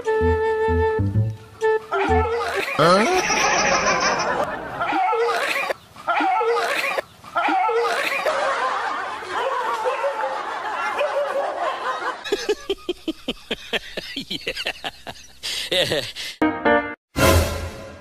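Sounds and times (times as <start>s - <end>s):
people laughing and chuckling: 1.9s - 16.4s.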